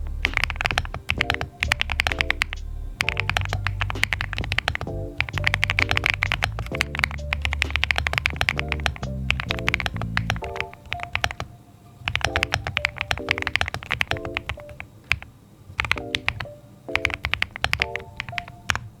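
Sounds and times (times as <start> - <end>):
background music: 0.0 - 19.0
mechanical keyboard typing: 0.2 - 11.5, 12.1 - 19.0.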